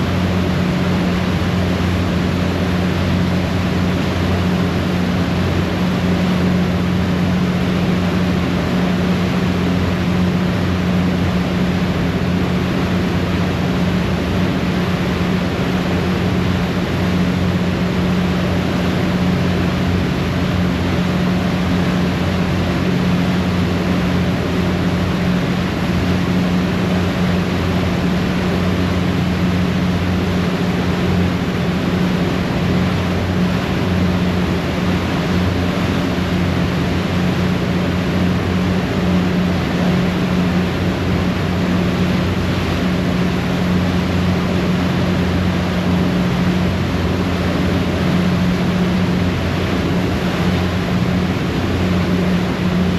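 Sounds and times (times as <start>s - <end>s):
boat engine drone: 0.0s - 52.9s
propeller wake rushing: 0.0s - 52.9s.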